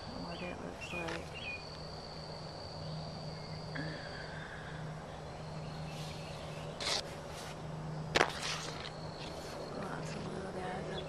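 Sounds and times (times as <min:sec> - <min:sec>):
insect buzzing: 0:00.0 - 0:11.0
steady low hum: 0:00.0 - 0:11.0.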